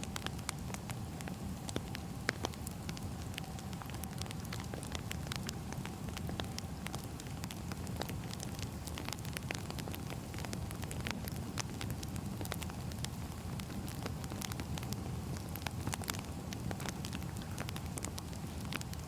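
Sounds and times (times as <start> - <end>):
low rumble of burning logs: 0.0 - 19.0
wood fire crackling: 0.0 - 19.0.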